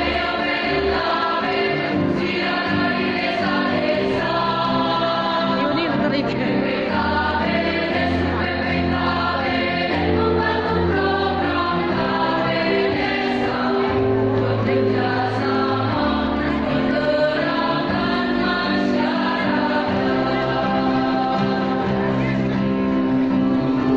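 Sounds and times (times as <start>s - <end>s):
choir singing in harmony: 0.0s - 23.9s.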